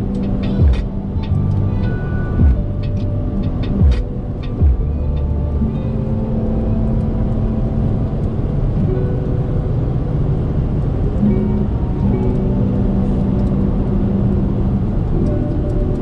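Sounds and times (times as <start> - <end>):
diesel engine low rumble: 0.0 - 16.0
road noise: 0.0 - 16.0.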